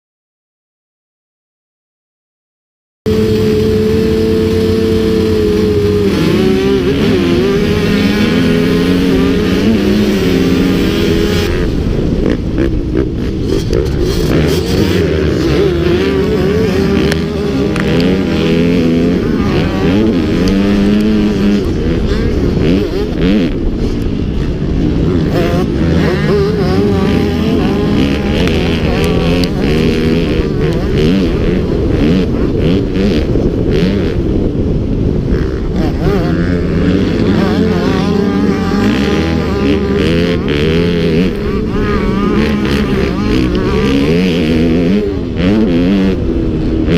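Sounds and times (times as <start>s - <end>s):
motocross bike engines revving: 3.1s - 46.9s.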